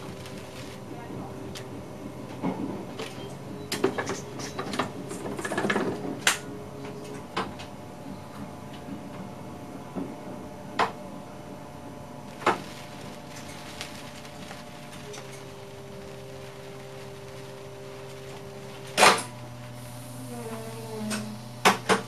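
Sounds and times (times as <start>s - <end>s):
steady equipment hum: 0.0s - 22.0s.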